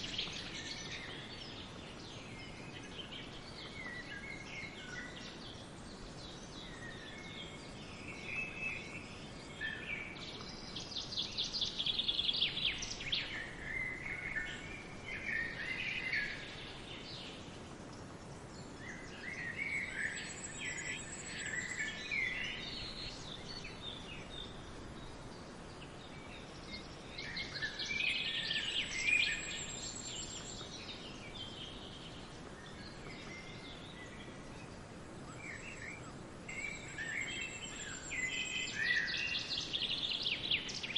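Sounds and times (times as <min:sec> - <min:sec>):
songbirds singing trilled phrases: 0:00.0 - 0:40.9
steady background hiss: 0:00.0 - 0:40.9.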